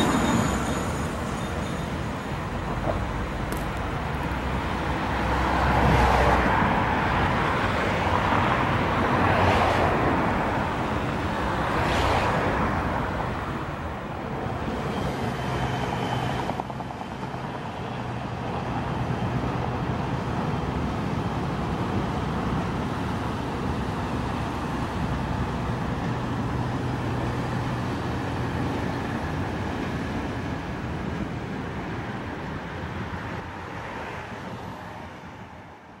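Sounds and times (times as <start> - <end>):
street traffic: 0.0 - 36.0.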